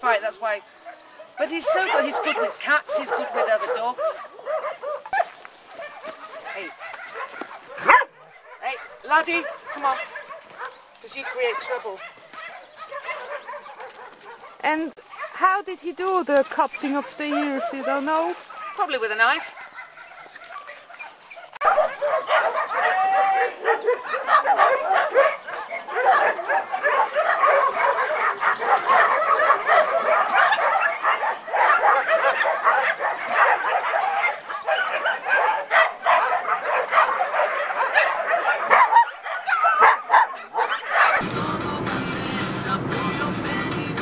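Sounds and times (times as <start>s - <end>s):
many dogs barking and yelping: 0.0s - 41.3s.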